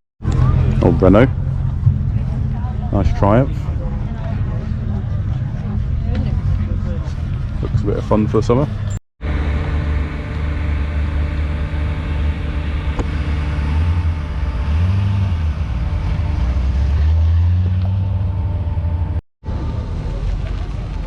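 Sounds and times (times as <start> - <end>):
car engine running: 0.2 - 21.0.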